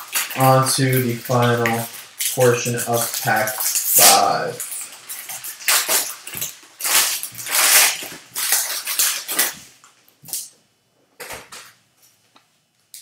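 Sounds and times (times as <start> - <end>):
foil wrapper crinkling and tearing: 0.0 - 10.5.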